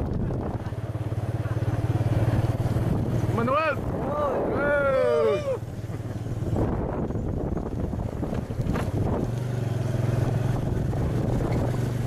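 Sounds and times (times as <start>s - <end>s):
wind rushing over microphone: 0.0s - 1.0s, 2.1s - 12.0s.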